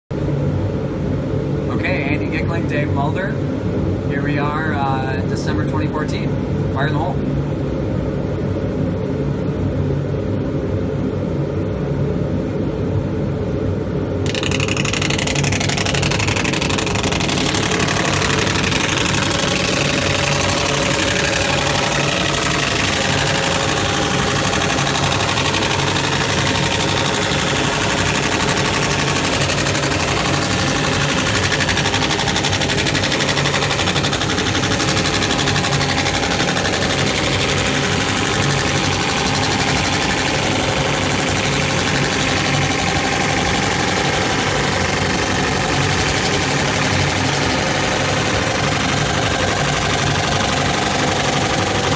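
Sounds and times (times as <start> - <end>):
machine hum: 0.0 - 51.9.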